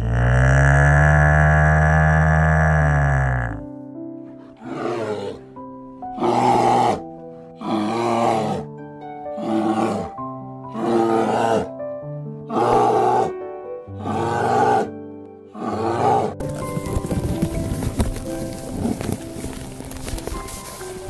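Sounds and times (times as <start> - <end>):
bear growling: 0.0 - 8.8, 9.4 - 11.8, 12.5 - 20.5
background music: 0.1 - 21.0.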